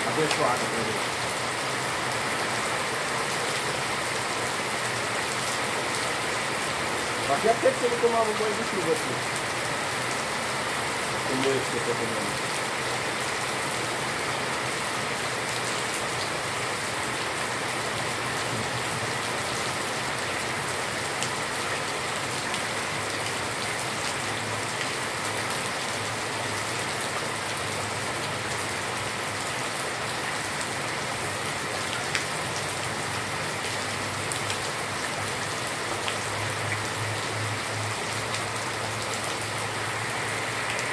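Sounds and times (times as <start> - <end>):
rain falling on concrete: 0.0 - 40.9.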